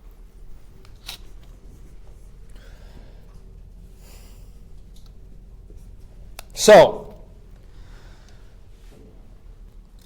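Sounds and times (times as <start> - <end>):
soft breaths: 0.0 - 6.6, 7.2 - 10.0
low steady hum: 0.0 - 10.0.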